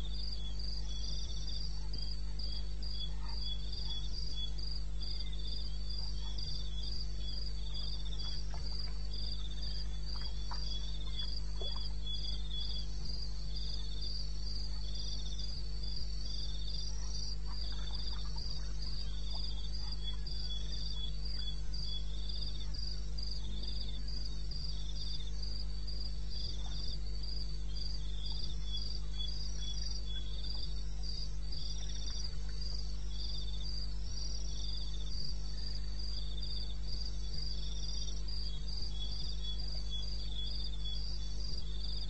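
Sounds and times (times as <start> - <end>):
cricket chirping evenly: 0.0 - 42.0
lower cricket chirping in groups: 0.0 - 42.0
steady low hum: 0.0 - 42.0.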